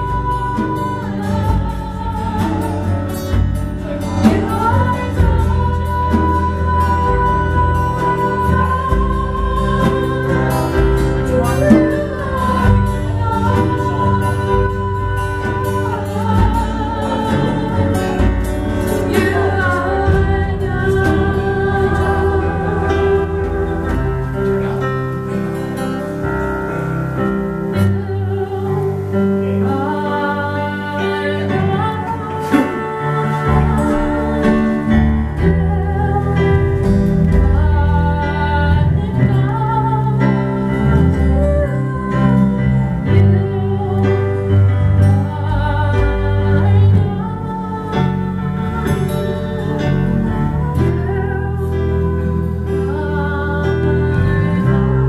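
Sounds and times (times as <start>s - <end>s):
strummed acoustic guitar: 0.0s - 30.0s, 30.6s - 55.0s
electric keyboard: 0.0s - 55.0s
low bass notes: 0.0s - 55.0s
woman singing: 0.0s - 55.0s.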